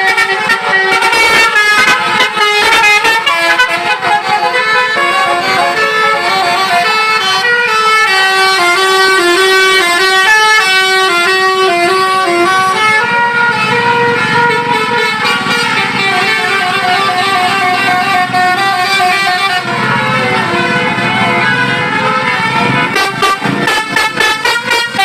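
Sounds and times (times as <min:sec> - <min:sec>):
tuned air horns playing melody: 0:00.0 - 0:25.0.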